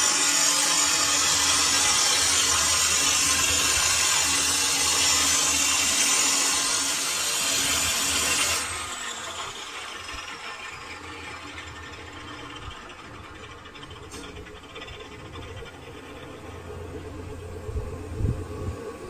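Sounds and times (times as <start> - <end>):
metal lathe running: 0.0 - 17.6
hissing scrape of turning shaft: 0.0 - 18.7.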